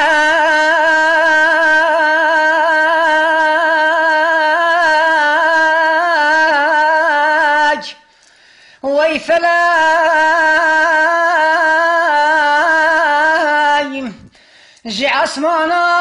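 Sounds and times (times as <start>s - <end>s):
person singing lament: 0.0s - 8.1s, 8.8s - 16.0s.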